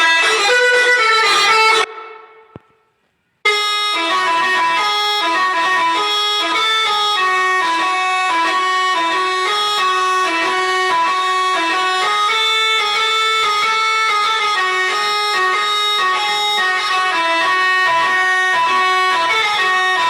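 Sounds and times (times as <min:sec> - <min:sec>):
multi-tone bus horns playing tune: 0:00.0 - 0:02.6, 0:03.5 - 0:20.0.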